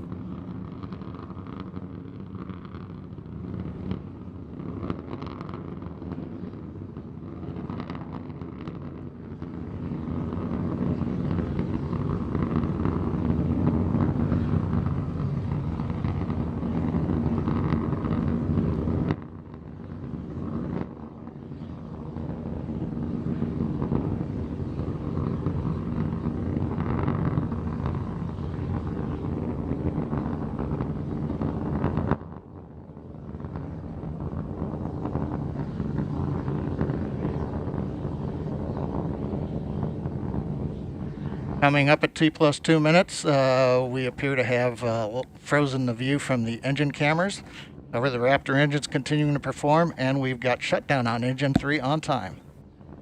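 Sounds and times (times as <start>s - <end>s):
rocket engine roar: 0.0s - 53.0s
wind on microphone: 0.0s - 53.0s.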